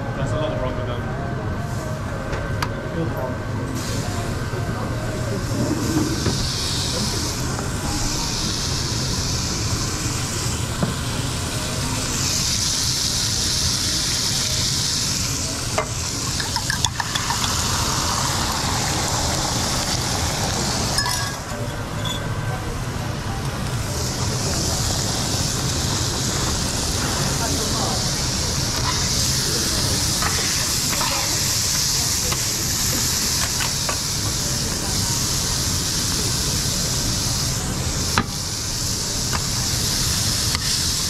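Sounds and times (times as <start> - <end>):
food sizzling on a griddle: 3.8 - 22.0, 22.6 - 41.0.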